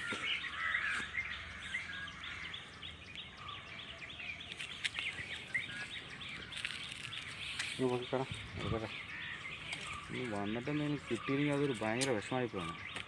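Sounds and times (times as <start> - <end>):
birds chirping short high calls: 0.0 - 13.0
faint outdoor background noise: 0.0 - 13.0.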